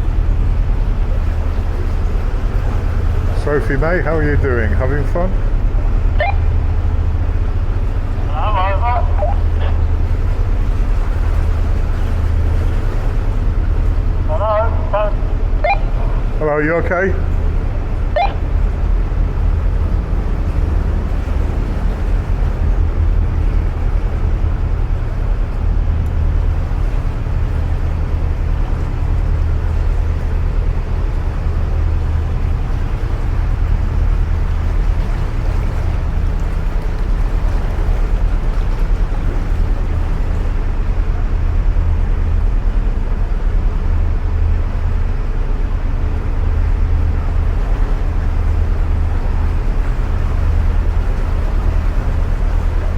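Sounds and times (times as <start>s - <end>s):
boat engine throbbing in tunnel: 0.0s - 52.9s.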